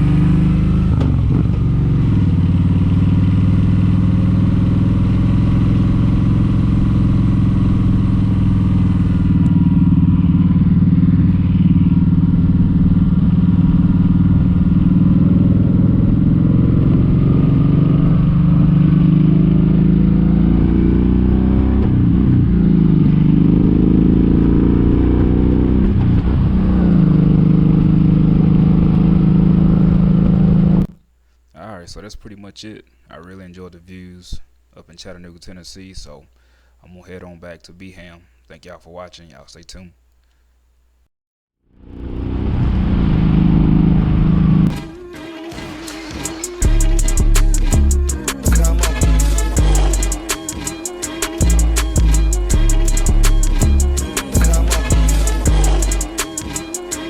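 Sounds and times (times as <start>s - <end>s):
motorcycle engine running: 0.0s - 31.0s, 41.7s - 57.0s.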